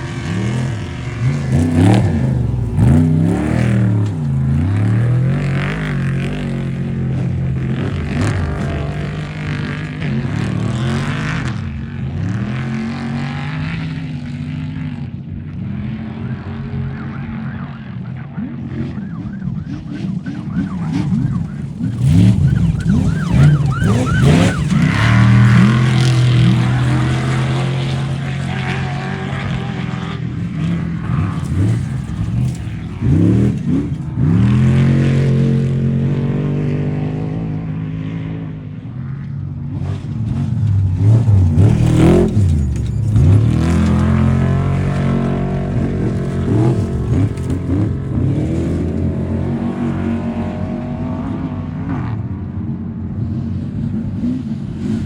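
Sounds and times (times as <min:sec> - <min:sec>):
race truck engines revving: 0:00.0 - 0:55.0.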